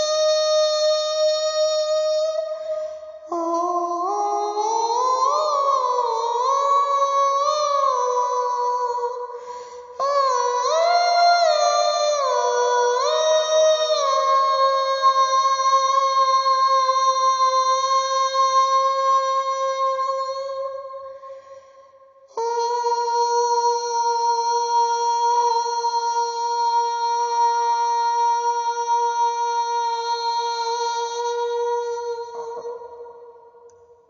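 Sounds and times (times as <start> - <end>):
woman singing wordless melody: 0.0 - 21.5, 22.3 - 33.4.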